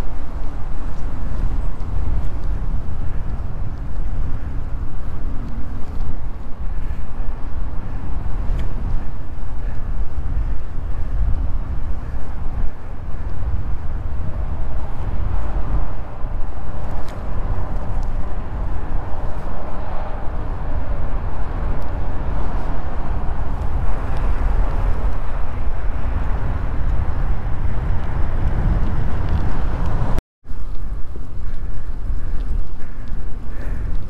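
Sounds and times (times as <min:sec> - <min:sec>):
bike rolling rumble: 0:00.0 - 0:34.0
wind buffeting microphone: 0:00.0 - 0:34.0.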